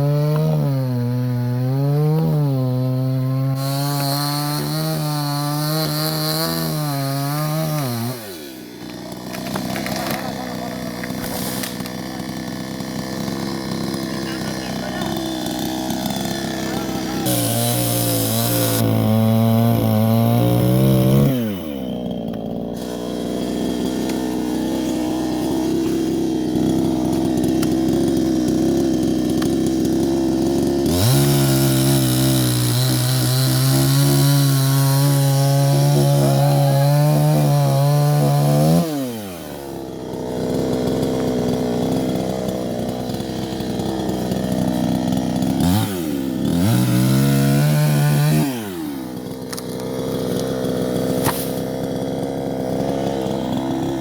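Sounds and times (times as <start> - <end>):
chainsaw running: 0.0 - 54.0.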